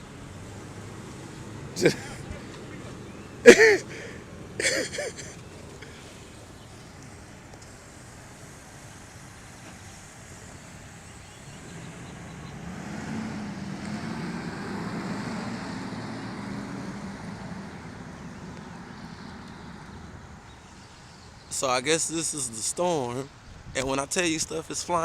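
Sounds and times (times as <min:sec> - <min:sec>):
car passing: 0:00.0 - 0:07.5, 0:08.2 - 0:21.0
outdoor background noise: 0:00.0 - 0:25.0.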